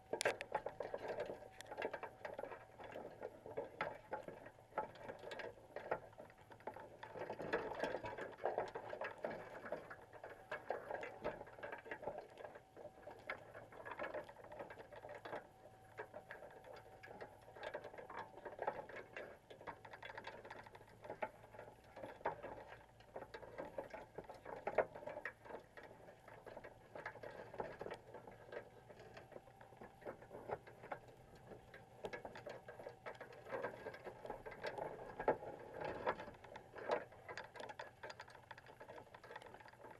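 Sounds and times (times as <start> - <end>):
faint steady hum: 0.0 - 39.9
underwater clicking and crackling: 0.0 - 39.9.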